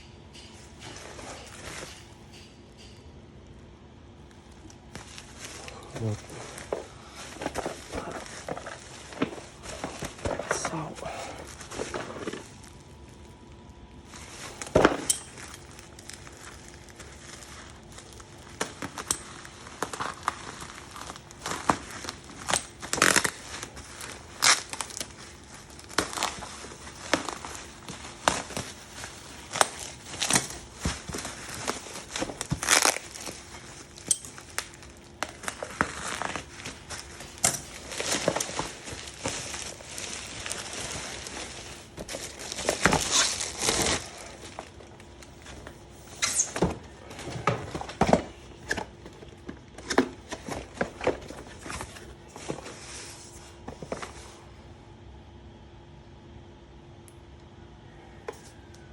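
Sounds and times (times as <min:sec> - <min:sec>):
plastic and paper crinkling: 0:04.3 - 0:54.4.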